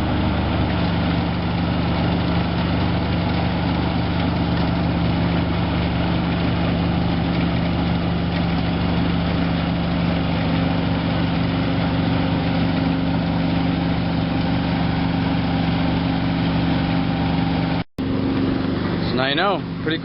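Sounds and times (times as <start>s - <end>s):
harvester engine running: 0.0s - 20.0s.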